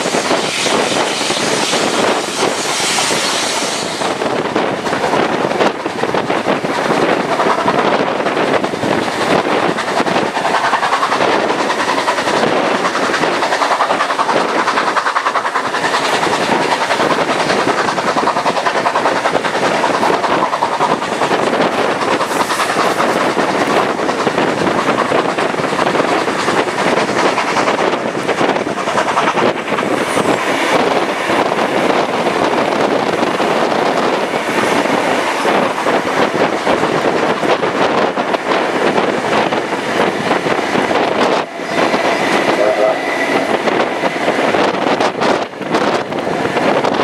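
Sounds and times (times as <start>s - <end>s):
train wheels running on rails: 0.0s - 47.0s.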